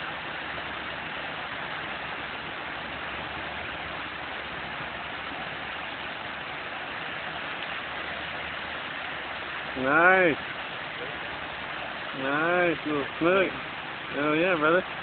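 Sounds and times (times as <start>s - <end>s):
water pouring over waterfall: 0.0s - 15.0s.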